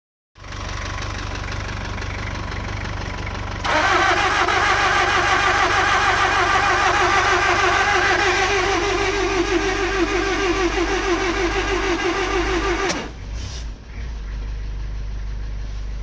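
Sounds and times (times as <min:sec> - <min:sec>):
starter cranking engine: 0:00.4 - 0:13.4.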